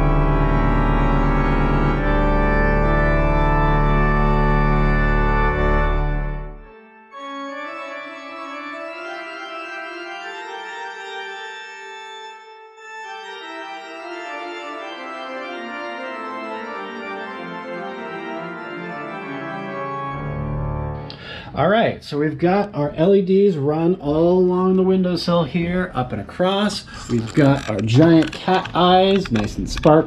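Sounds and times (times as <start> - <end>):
organ music: 0.0 - 30.0.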